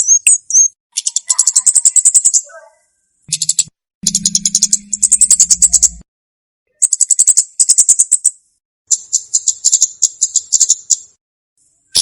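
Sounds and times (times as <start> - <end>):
bird chipping rapidly: 0.0 - 2.7, 3.3 - 6.0, 6.7 - 11.2.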